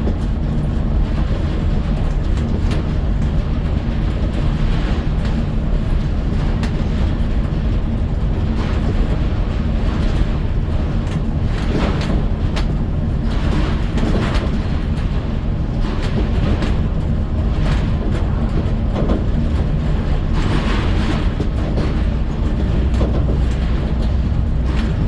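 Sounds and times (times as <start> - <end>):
rattles and clicks: 0.0 - 25.0
vehicle engine and tyre rumble: 0.0 - 25.0.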